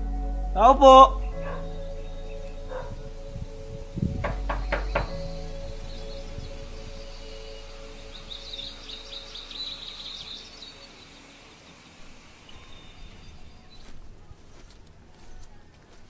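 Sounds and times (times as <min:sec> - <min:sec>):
steady outdoor hiss: 0:00.0 - 0:15.2
small birds chirping: 0:00.6 - 0:16.0.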